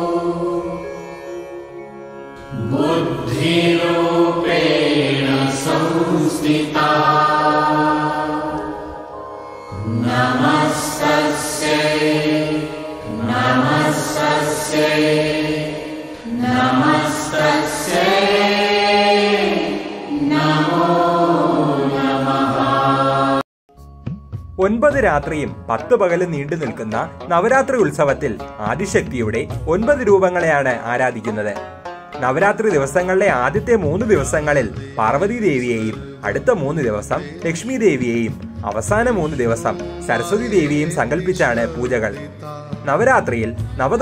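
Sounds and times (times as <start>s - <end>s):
melodic chant with music: 0.0s - 23.5s, 24.5s - 44.0s.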